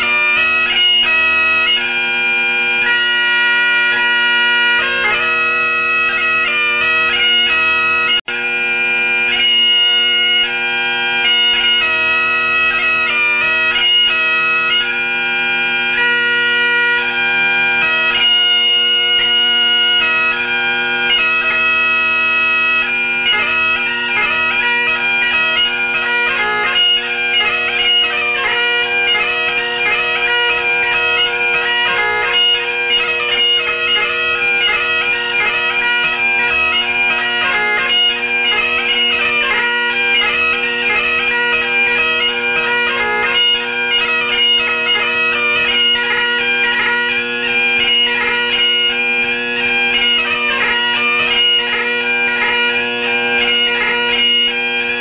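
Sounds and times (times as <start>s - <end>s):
bagpipe playing: 0.0s - 55.0s.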